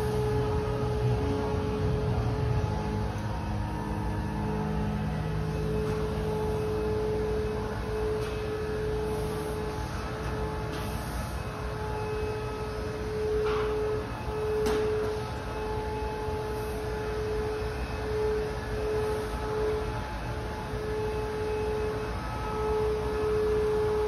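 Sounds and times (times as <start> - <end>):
mid-pitched hum: 0.0 - 24.0.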